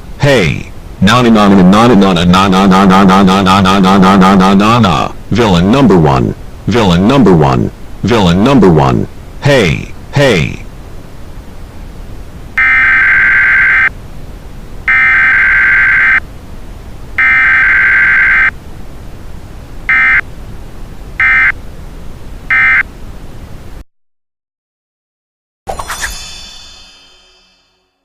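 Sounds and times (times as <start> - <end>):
steady background hiss: 0.0 - 23.8.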